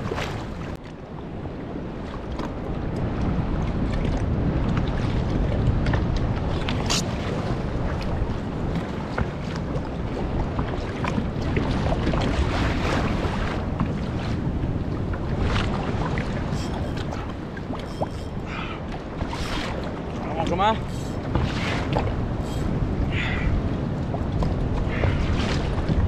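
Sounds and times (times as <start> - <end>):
water slapping kayak hull: 0.0 - 26.0
wind buffeting microphone: 0.0 - 26.0.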